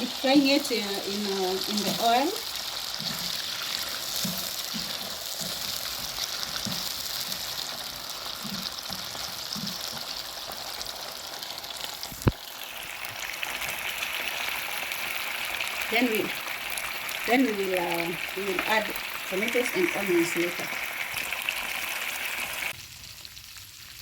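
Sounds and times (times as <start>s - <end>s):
liver deep-frying in oil: 0.0s - 24.0s.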